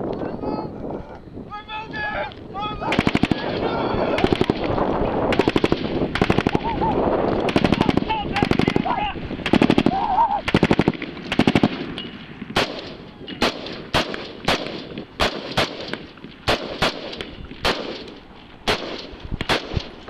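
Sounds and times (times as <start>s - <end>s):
rifle gunshots: 2.8s - 6.7s, 7.4s - 20.0s.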